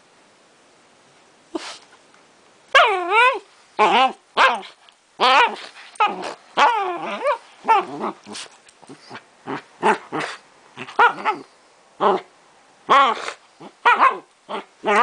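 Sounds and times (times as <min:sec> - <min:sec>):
small dog play-growling and yapping: 0:02.7 - 0:15.0.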